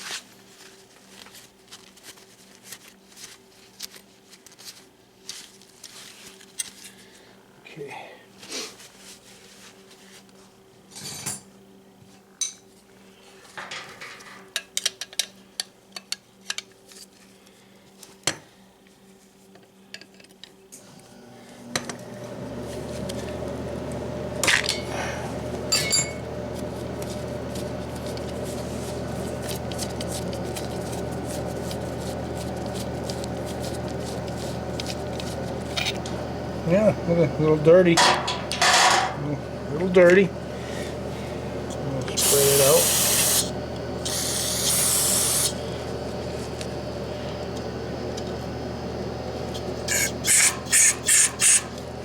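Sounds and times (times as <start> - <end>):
machine noise with low hum: 0.0 - 52.0.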